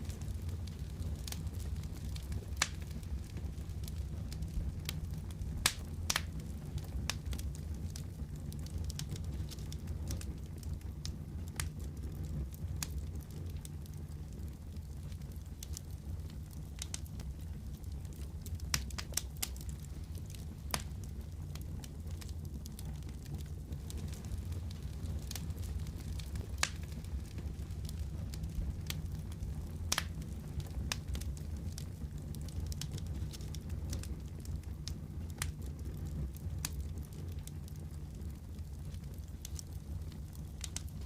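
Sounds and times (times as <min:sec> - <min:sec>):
fire pops and snaps: 0:00.0 - 0:41.0
steady low rumble: 0:00.0 - 0:41.0
wood fire crackling: 0:00.0 - 0:41.0.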